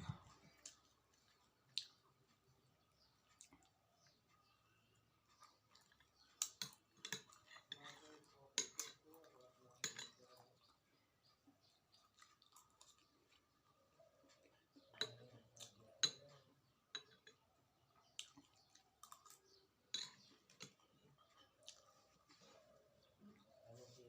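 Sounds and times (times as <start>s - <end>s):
eating clicks and smacks: 0.4s - 10.8s, 11.4s - 17.4s, 18.0s - 22.0s.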